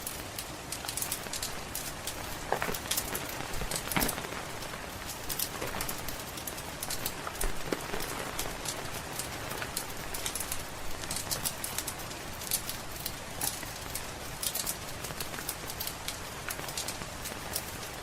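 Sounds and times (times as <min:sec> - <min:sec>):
rain: 0:00.0 - 0:18.0
wood fire crackling: 0:00.0 - 0:18.0.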